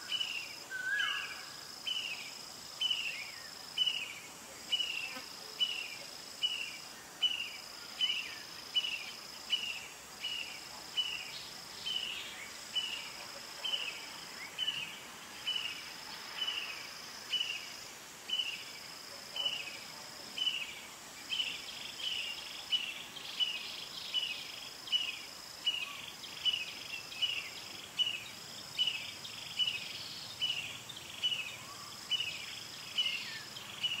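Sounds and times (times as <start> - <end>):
insect buzz: 0.0 - 34.0
insect chirping: 0.0 - 34.0.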